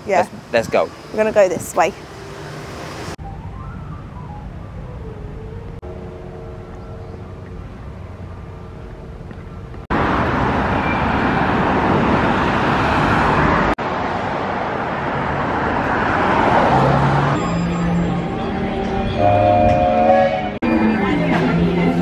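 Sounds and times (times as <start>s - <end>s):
cars driving past: 0.4s - 19.7s.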